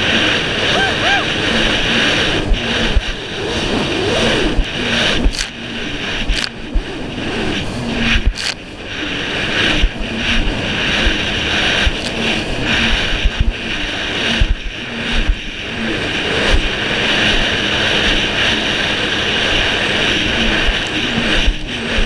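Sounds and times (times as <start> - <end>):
jet ski engine drone: 0.0 - 22.0
wind noise on microphone: 0.0 - 22.0.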